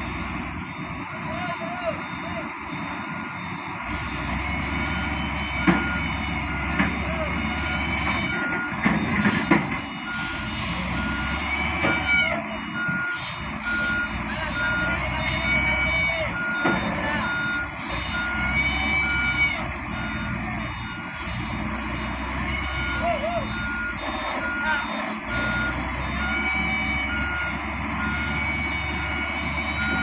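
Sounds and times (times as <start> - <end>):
diesel engine running: 0.0 - 30.0
reversing alarm beeping: 0.0 - 30.0.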